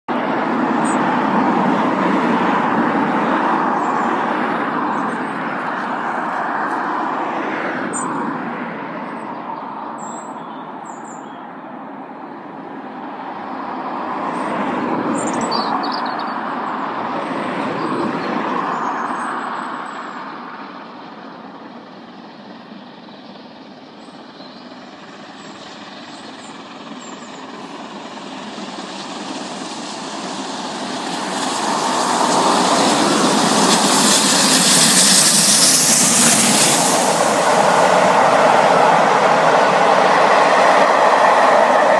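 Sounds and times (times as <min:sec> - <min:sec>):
rushing vehicle noise: 0:00.0 - 0:41.9.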